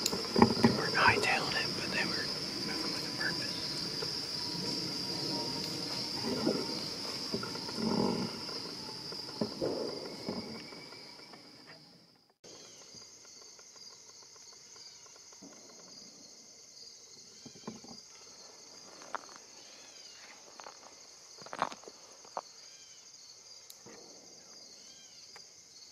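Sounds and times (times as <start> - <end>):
insect chorus: 0.0 - 25.9.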